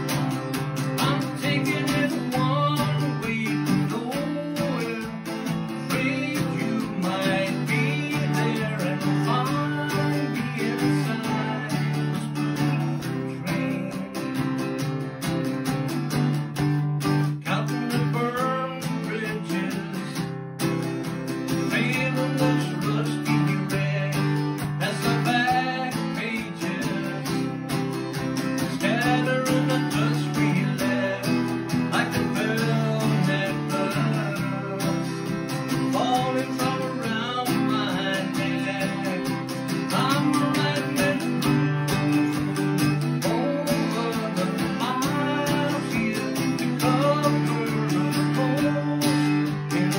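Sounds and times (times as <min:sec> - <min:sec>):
acoustic guitar strumming: 0:00.0 - 0:49.9.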